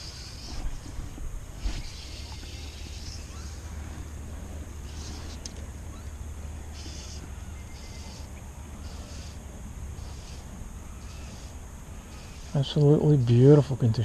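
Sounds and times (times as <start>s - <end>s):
high-pitched pulsing buzzing call: 0.0s - 13.6s
steady low rumble: 0.0s - 14.0s.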